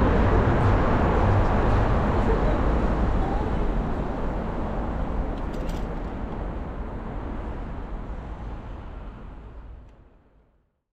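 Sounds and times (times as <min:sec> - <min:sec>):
road noise: 0:00.0 - 0:09.9.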